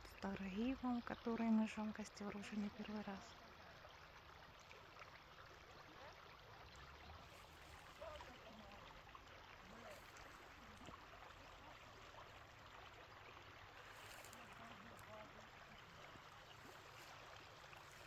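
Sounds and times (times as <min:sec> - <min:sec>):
brook babbling over stones: 0:00.0 - 0:18.0.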